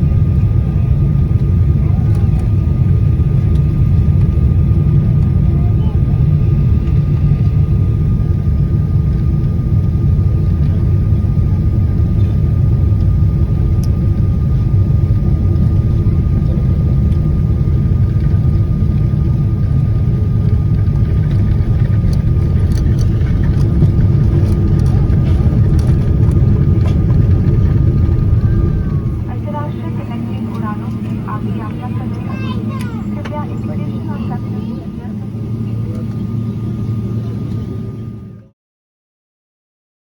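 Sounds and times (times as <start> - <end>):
vehicle interior rumble: 0.0 - 37.9.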